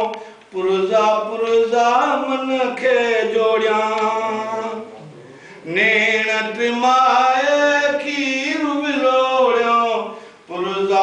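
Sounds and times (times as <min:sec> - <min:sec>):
man singing unaccompanied: 0:00.0 - 0:05.0, 0:05.6 - 0:11.0.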